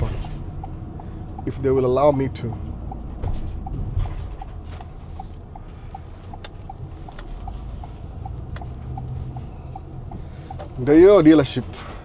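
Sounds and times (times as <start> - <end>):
truck engine rumble: 0.0 - 12.0
turn signal ticking: 0.0 - 12.0.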